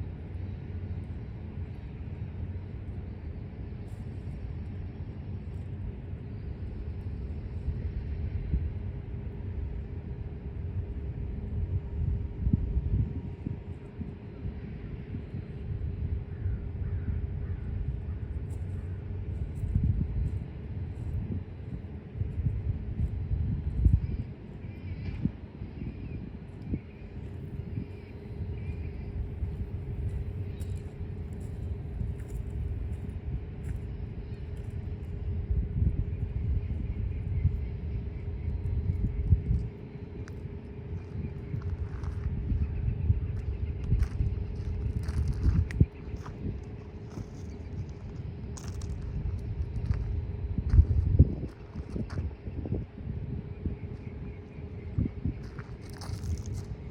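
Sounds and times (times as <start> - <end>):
freight train rumbling: 0.0 - 56.9.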